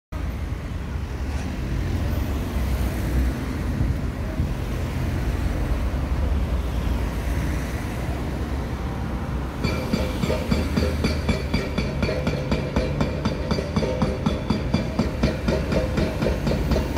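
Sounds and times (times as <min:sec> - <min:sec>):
passing vehicles rumbling: 0:00.2 - 0:16.9.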